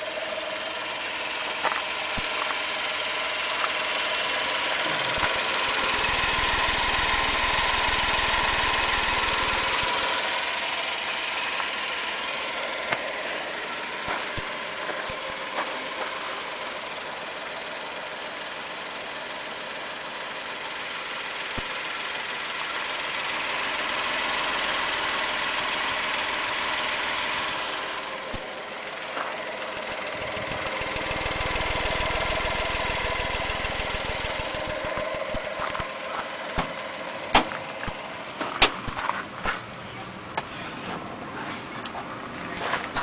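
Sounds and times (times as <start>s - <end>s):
small engine idling: 0.0s - 43.0s.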